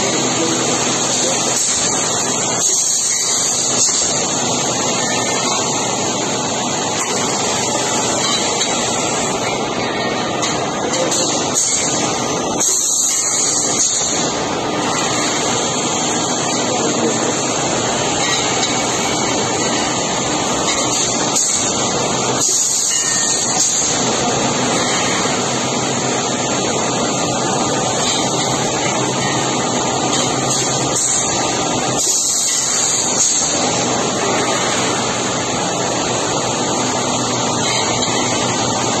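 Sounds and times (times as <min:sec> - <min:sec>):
industrial machinery din: 0:00.0 - 0:39.0.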